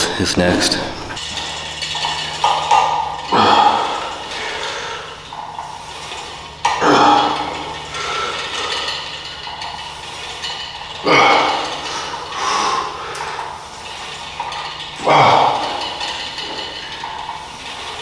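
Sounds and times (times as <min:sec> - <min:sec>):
gym weights clanking: 0:00.0 - 0:18.0
steady low hum: 0:00.0 - 0:18.0.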